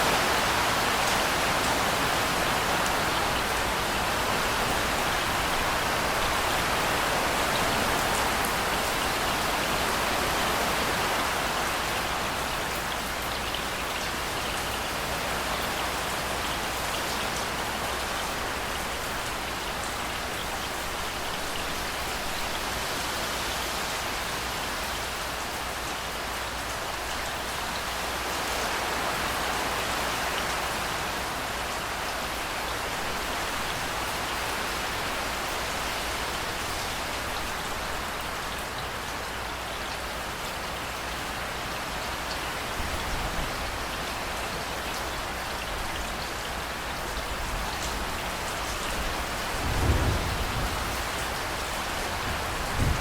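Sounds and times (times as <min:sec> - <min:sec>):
rain pouring on hard surfaces: 0:00.0 - 0:53.0.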